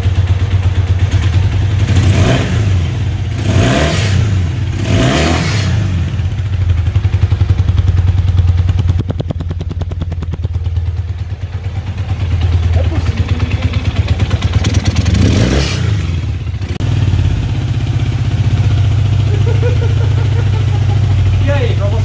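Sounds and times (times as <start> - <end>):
motorcycle engine idling: 0.0 - 4.9, 5.5 - 22.0
motorcycle engine revving: 0.0 - 22.0.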